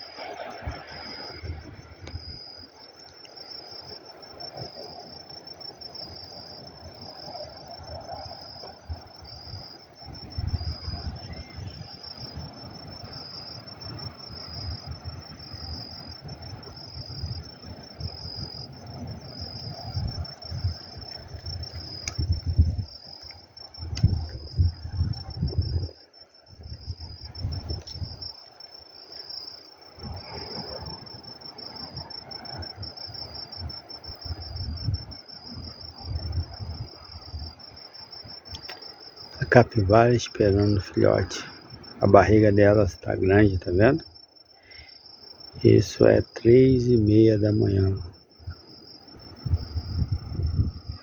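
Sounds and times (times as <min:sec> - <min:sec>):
crickets trilling: 0:00.0 - 0:51.0.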